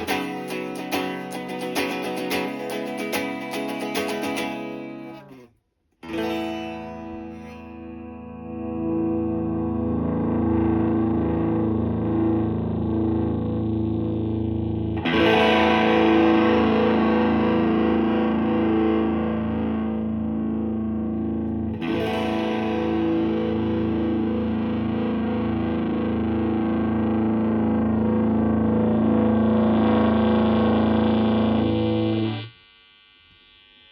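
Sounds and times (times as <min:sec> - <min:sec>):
overdriven electric guitar chords: 0:00.0 - 0:32.5.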